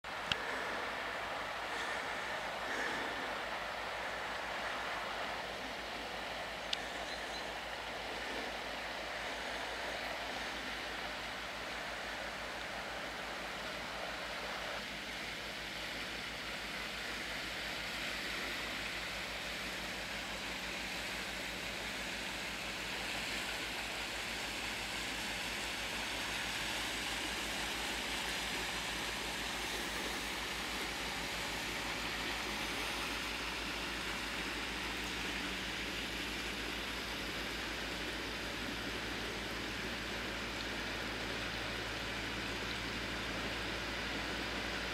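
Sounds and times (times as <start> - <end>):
low engine hum: 0.0 - 44.9
water rushing: 0.0 - 44.9.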